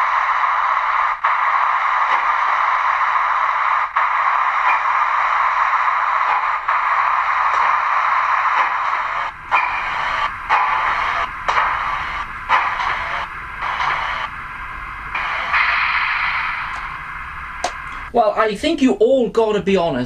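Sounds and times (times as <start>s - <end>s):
steam hiss through small speaker: 0.0s - 20.0s.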